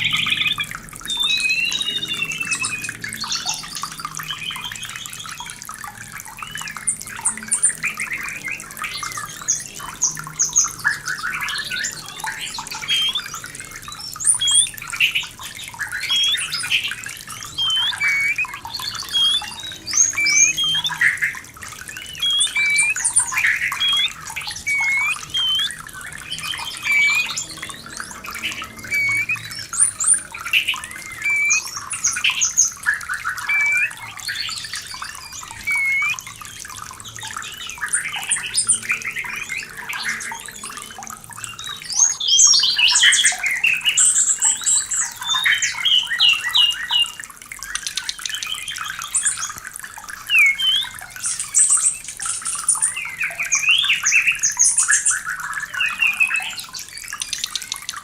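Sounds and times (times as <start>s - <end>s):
bird singing whistled phrases: 0.0s - 5.5s, 6.4s - 36.6s, 37.2s - 49.6s, 50.2s - 51.8s, 52.5s - 58.0s
running water: 0.0s - 58.0s.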